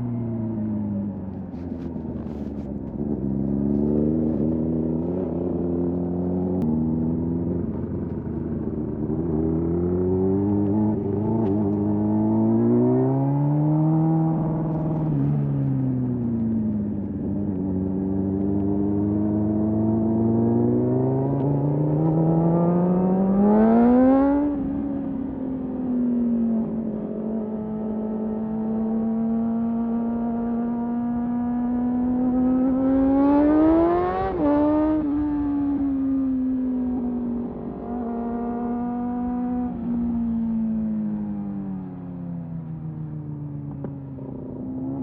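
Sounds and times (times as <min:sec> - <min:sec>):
motorcycle engine revving: 0:00.9 - 0:24.9, 0:26.7 - 0:42.0.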